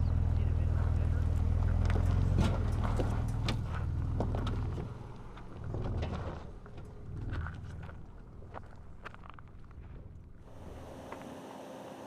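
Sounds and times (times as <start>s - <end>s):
engine running off-road: 0.0s - 12.0s.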